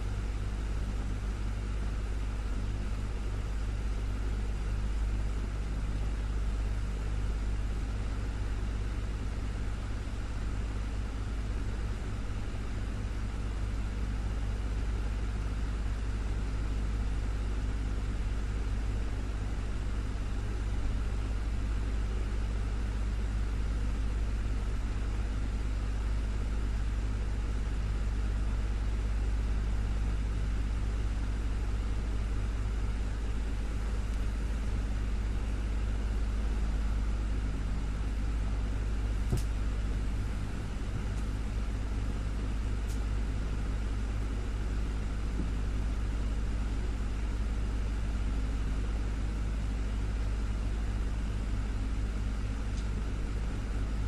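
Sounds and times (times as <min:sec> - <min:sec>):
desktop fan whirring: 0:00.0 - 0:54.0.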